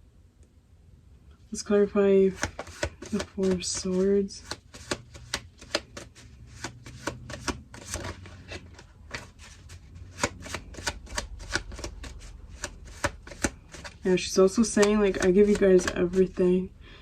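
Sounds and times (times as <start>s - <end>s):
cards being shuffled: 2.2s - 16.4s.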